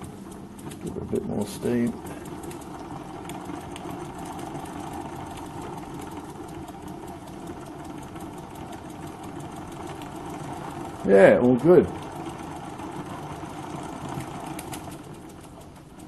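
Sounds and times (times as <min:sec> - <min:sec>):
model steam engine clattering: 0:00.0 - 0:16.0.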